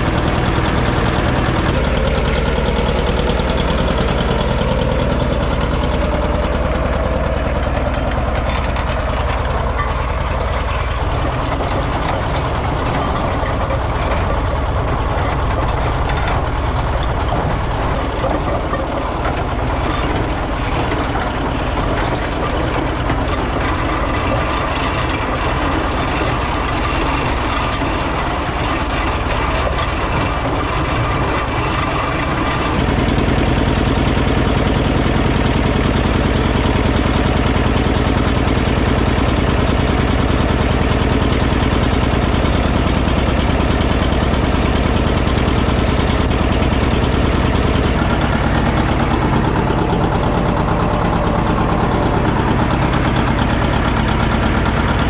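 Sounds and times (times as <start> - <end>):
farm implement rattling and clattering: 0.0 - 55.0
tractor diesel engine under load: 0.0 - 55.0.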